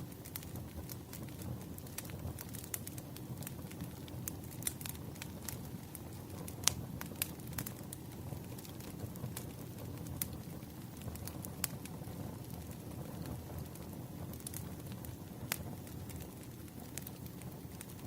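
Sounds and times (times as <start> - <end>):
firewood crackling and popping: 0.0 - 18.0
flames rushing: 0.0 - 18.0.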